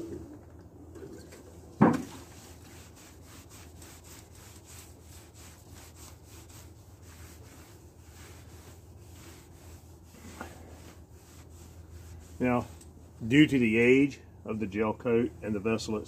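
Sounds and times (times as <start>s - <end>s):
pad scrubbing boat hull: 1.8s - 16.0s.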